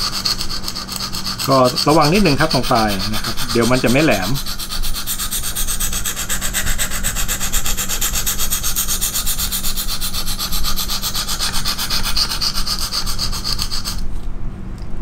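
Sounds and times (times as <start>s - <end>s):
sharpening stone rasping on knife blade: 0.0s - 14.1s.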